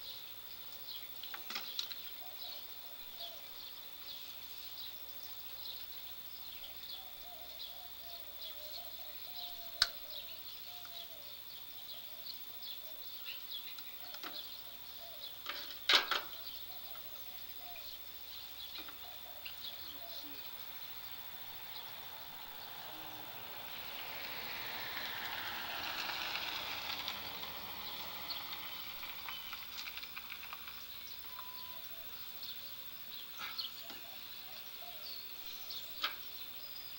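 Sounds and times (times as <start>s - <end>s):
birds chirping: 0.0s - 36.9s
insects chirring: 0.0s - 36.9s.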